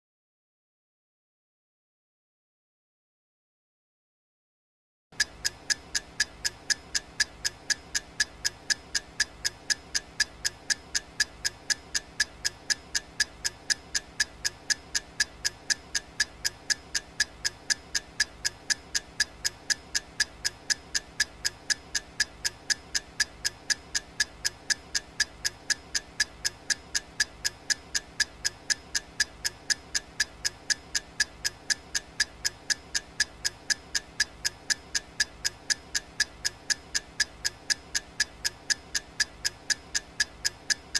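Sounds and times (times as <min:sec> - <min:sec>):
clock ticking: 0:05.2 - 0:40.9.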